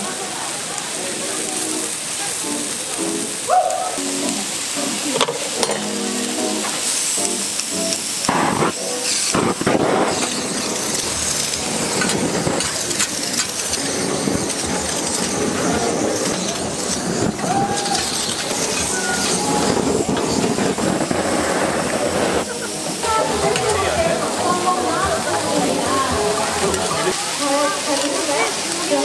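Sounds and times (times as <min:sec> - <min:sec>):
butane torch hissing: 0:00.0 - 0:29.0
meat and fries sizzling on griddle: 0:00.0 - 0:29.0.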